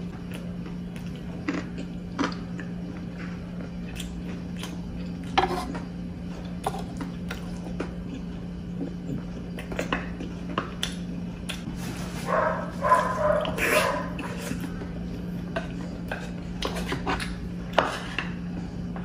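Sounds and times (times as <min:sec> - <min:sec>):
close-up chewing and mouth sounds: 0:00.0 - 0:19.0
steady low hum: 0:00.0 - 0:19.0.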